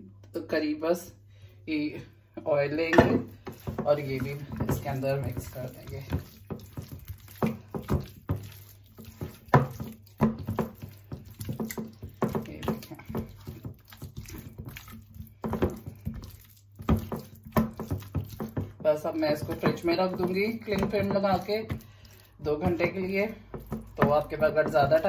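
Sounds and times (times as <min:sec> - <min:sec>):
hands squelching chicken pieces: 0:02.8 - 0:25.0.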